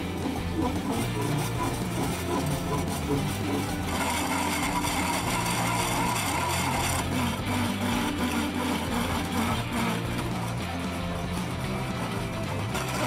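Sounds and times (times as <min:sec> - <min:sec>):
drill grinding on stone: 0:00.0 - 0:13.0
guitar music: 0:00.0 - 0:13.0.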